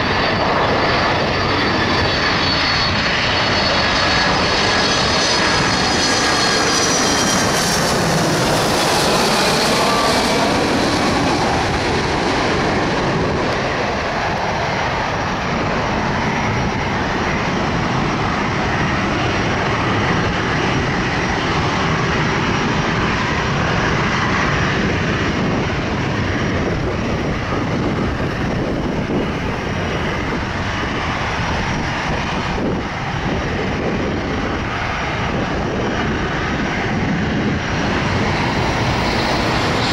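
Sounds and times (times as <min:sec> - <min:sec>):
jet engines passing overhead: 0:00.0 - 0:39.9.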